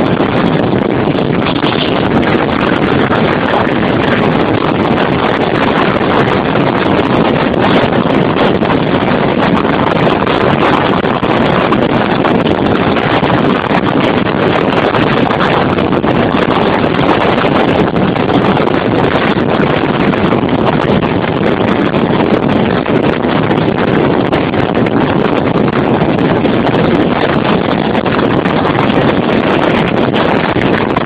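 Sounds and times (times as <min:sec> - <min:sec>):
car road and wind noise: 0:00.0 - 0:31.0
wind blowing on microphone: 0:00.0 - 0:31.0.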